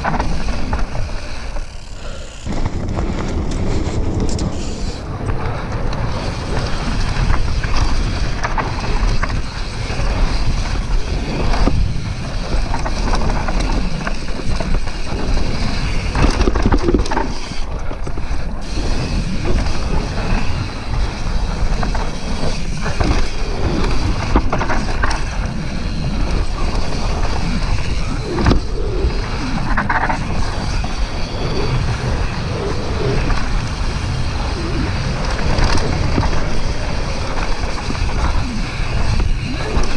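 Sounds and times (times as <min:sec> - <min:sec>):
wind noise on microphone: 0:00.0 - 0:01.9, 0:02.5 - 0:39.9
bike chain and frame rattling: 0:00.0 - 0:39.9
tyres rolling on dirt: 0:00.0 - 0:39.9.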